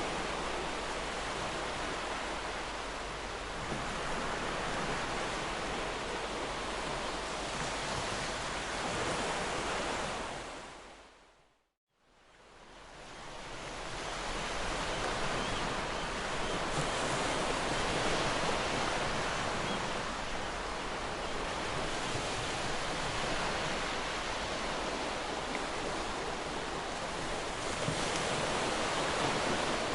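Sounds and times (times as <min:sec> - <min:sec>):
ocean waves on shore: 0:00.0 - 0:11.4, 0:12.1 - 0:29.9.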